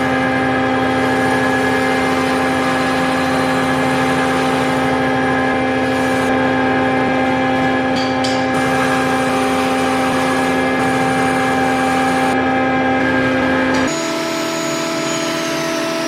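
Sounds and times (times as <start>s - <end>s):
power tool motor whine: 0.0s - 16.0s.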